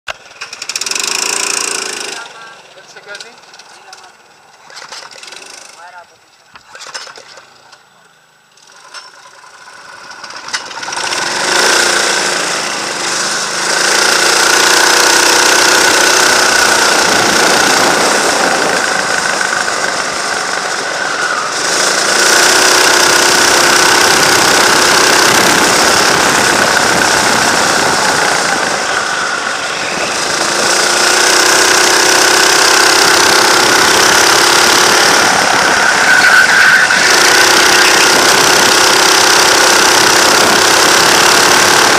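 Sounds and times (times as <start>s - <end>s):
go-kart engine running hard: 0.1s - 6.0s, 8.6s - 41.9s.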